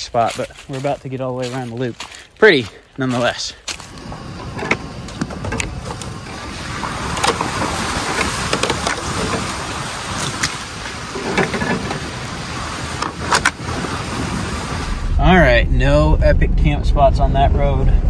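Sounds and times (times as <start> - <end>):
tyre noise on gravel road: 0.0 - 15.1.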